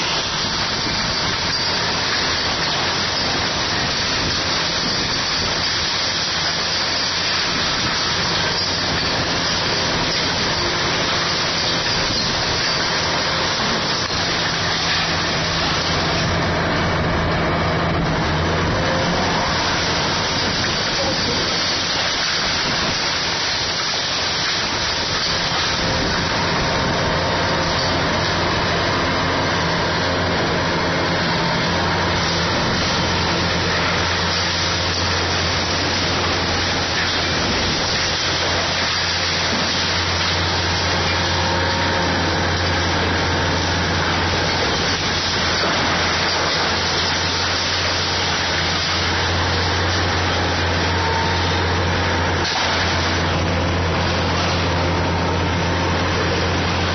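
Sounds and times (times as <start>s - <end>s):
constant noisy hiss: 0.0s - 56.9s
excavator engine hum: 0.0s - 56.9s.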